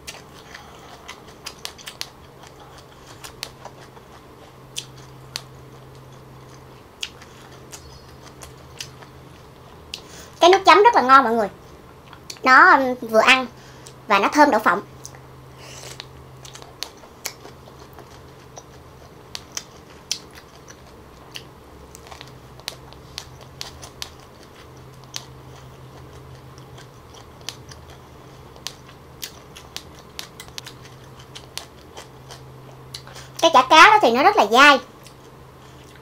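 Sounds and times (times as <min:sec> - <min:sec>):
chewing and mouth smacks: 0:00.0 - 0:10.1, 0:11.9 - 0:12.4, 0:15.8 - 0:33.4, 0:35.0 - 0:36.0
faint low hum: 0:00.0 - 0:36.0.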